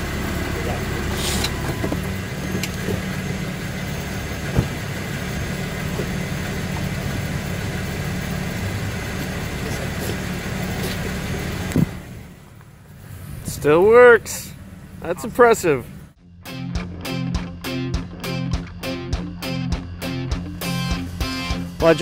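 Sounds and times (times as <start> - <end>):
pickup truck engine running: 0.0 - 16.2, 19.1 - 22.0.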